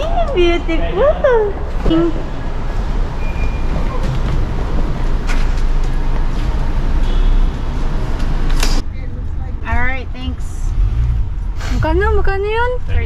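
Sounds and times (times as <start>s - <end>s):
car rumbling: 0.0s - 13.0s.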